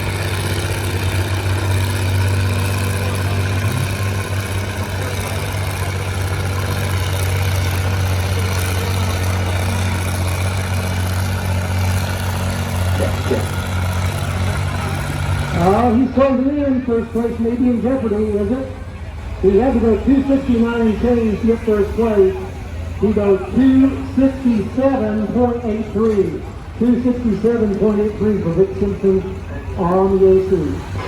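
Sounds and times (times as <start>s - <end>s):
tractor engine under load: 0.0s - 31.0s.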